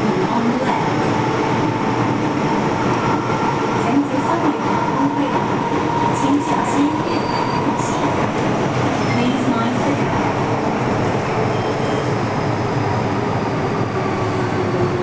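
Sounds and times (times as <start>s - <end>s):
metro train rumbling in tunnel: 0.0s - 15.0s.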